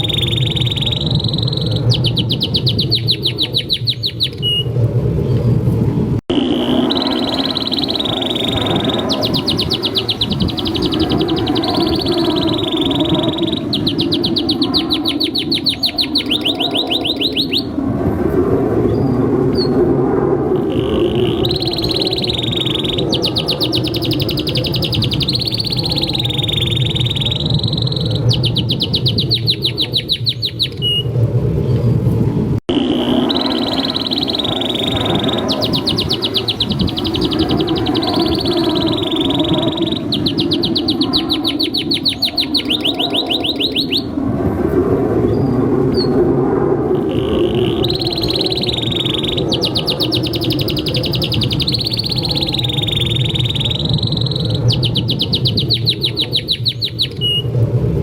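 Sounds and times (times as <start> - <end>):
canary singing: 0.0 - 4.7, 6.3 - 17.8, 20.7 - 31.1, 32.7 - 44.1, 47.1 - 57.4.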